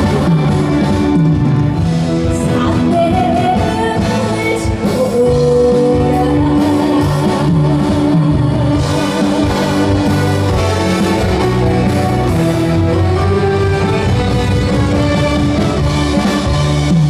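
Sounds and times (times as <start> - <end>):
live band playing trot song: 0.0 - 17.0.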